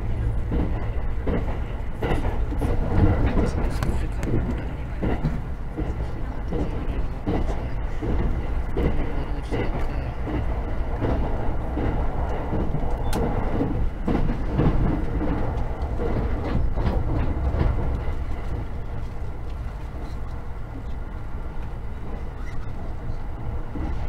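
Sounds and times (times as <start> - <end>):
track clacks and knocks: 0.0 - 24.0
train wheels rumbling on rails: 0.0 - 24.0.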